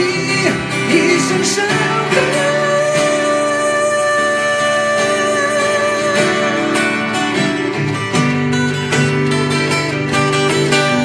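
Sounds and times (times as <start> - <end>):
acoustic guitars strumming: 0.0 - 11.0.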